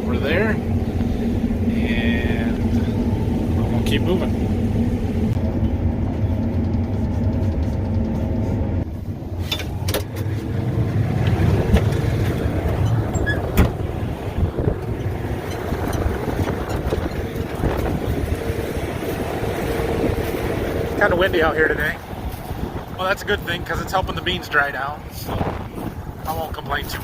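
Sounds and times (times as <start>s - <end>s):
farm machinery engine running: 0.0s - 27.0s.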